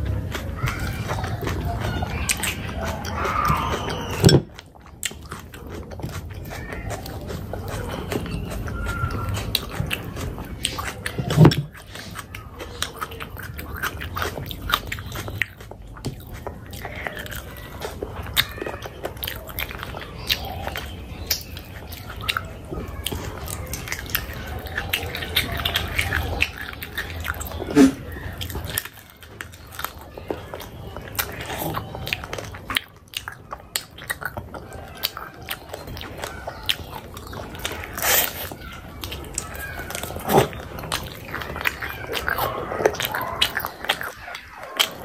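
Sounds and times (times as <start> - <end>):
chewing and biting food: 0.0 - 45.0
wet mouth clicks: 0.0 - 45.0.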